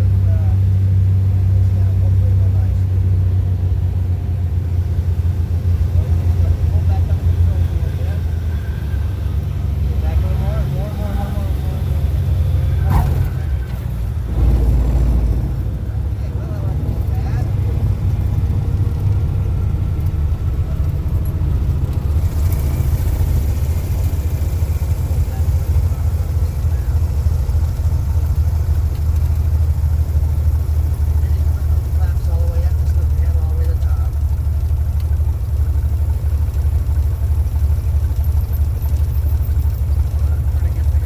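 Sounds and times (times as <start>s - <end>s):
small plane engine rumble: 0.0s - 41.0s.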